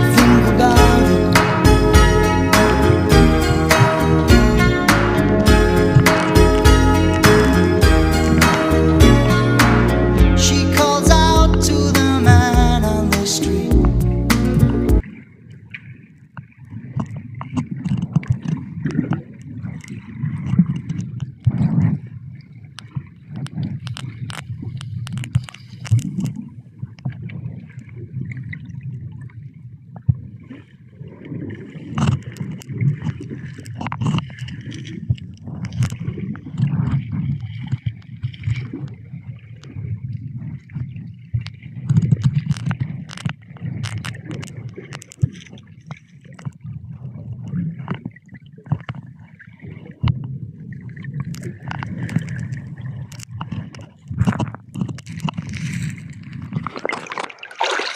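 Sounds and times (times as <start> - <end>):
sea water sloshing and gurgling: 0.0 - 9.5, 14.6 - 57.9.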